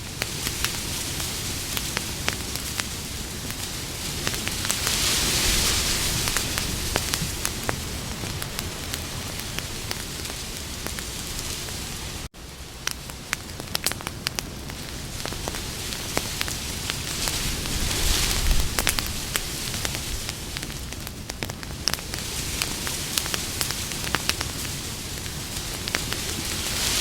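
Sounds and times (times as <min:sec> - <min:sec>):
crackles and pops of burning wood: 0:00.0 - 0:27.0
hiss of flames: 0:00.0 - 0:27.0.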